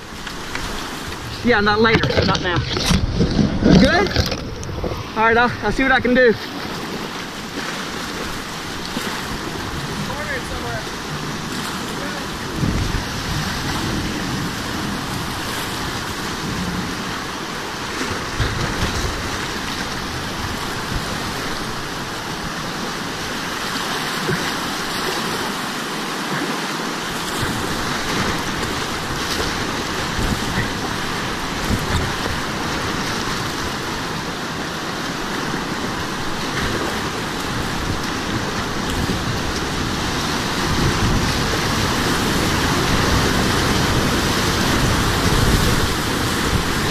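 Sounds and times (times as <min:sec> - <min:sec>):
fast river water rushing: 0:00.0 - 0:46.9
paddle strokes splashing: 0:00.0 - 0:46.9.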